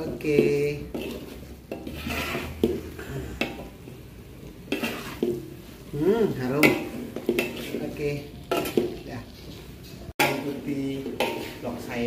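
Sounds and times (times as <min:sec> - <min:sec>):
metal spatula scraping a wok: 0:00.0 - 0:12.0.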